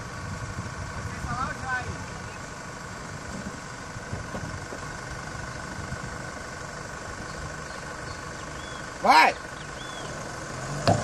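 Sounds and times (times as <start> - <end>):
truck engines running at low revs: 0.0 - 11.0.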